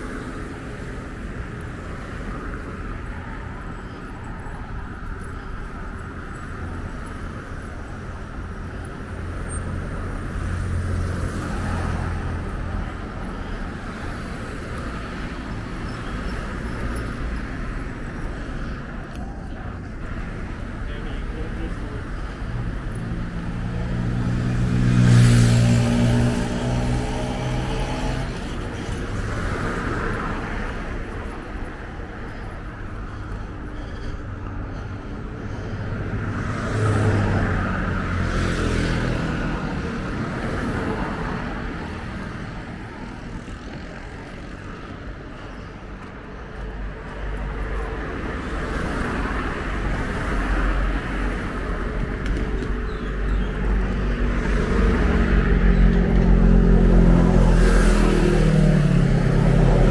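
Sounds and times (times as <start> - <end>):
steady traffic rumble: 0.0 - 59.9
vehicles driving past: 0.0 - 59.9.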